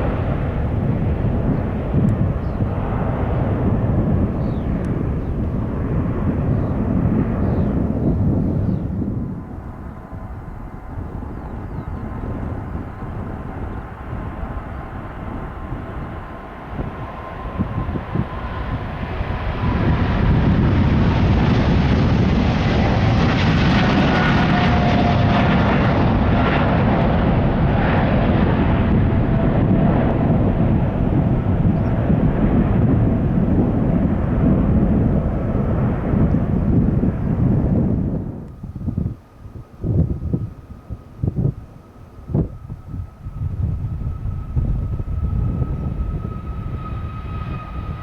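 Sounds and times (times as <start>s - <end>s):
faint jet engine whine: 0.0s - 48.0s
jet airliner engines roaring: 0.0s - 48.0s.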